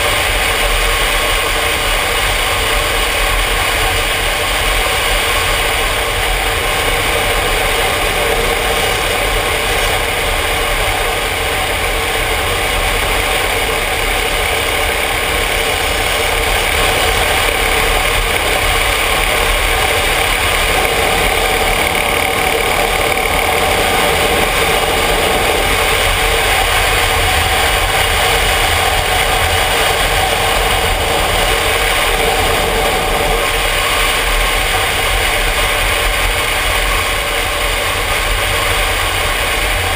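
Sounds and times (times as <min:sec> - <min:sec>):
motorcycle engine running: 0:00.0 - 0:39.9
road noise: 0:00.0 - 0:39.9
rushing wind: 0:00.0 - 0:39.9.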